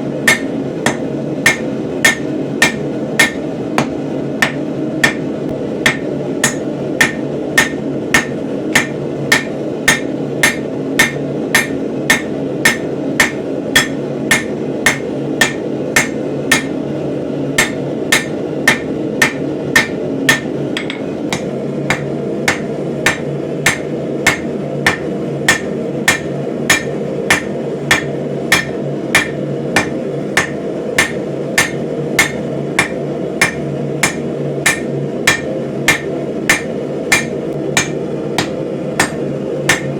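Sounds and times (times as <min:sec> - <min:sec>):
hammer blows on an anvil: 0:00.2 - 0:16.8, 0:17.6 - 0:39.9.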